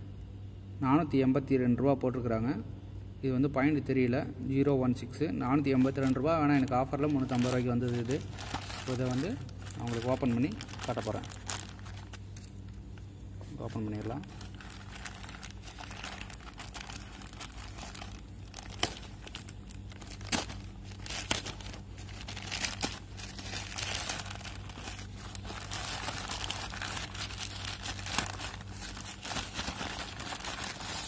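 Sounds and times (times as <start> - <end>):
faint low hum: 0.0 - 31.0
plastic bag crinkling: 5.6 - 31.0.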